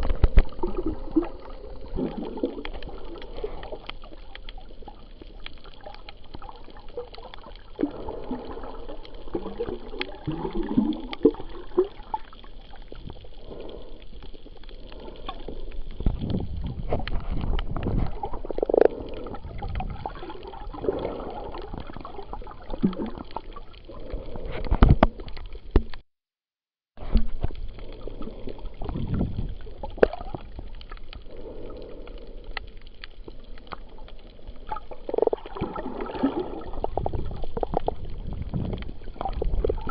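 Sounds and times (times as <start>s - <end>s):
small underwater clicks: 0.0s - 26.0s, 27.0s - 39.9s
underwater water sloshing: 0.0s - 26.0s, 27.0s - 39.9s.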